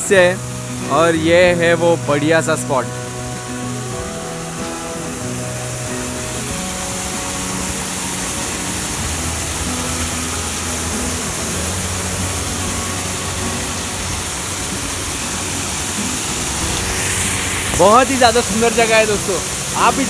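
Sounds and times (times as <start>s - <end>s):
background music: 0.0s - 20.0s
waterfall splashing onto rocks: 0.0s - 20.0s.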